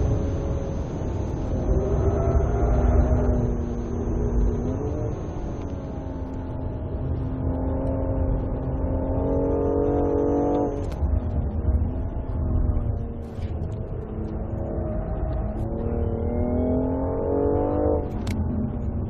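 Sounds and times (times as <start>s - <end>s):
car engine running hard: 0.0s - 19.0s.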